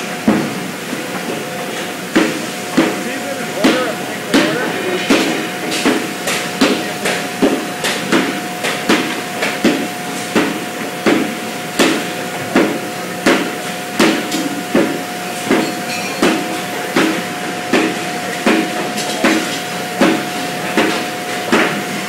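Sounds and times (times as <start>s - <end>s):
constant machine hum: 0.0s - 22.0s
machinery knocking: 2.1s - 21.8s.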